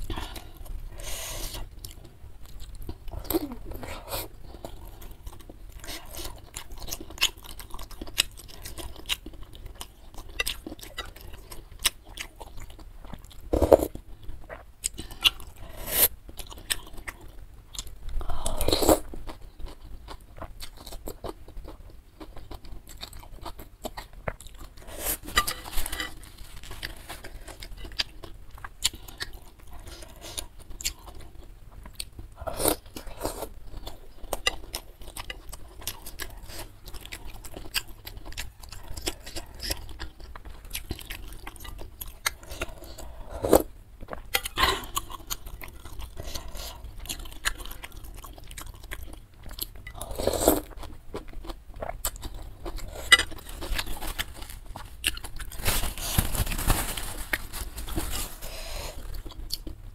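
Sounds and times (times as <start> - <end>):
close chewing with mouth clicks: 0.0 - 56.7, 57.3 - 59.8.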